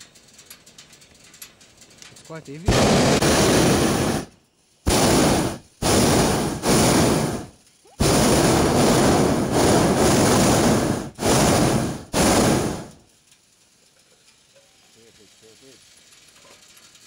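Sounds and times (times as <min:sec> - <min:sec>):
propane burner blasts: 0:00.0 - 0:17.0.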